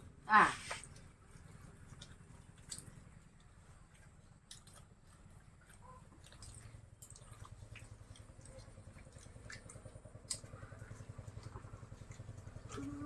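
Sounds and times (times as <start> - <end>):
low steady hum: 0.0 - 13.0
people chewing: 0.5 - 13.0.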